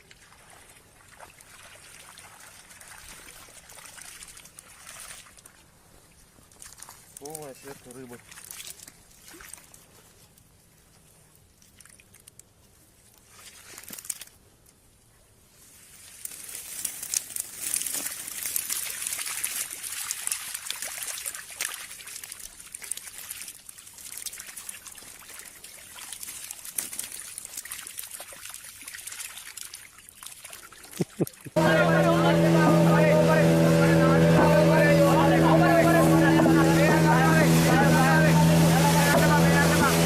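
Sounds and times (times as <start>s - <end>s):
water trickling and splashing: 0.0s - 40.0s.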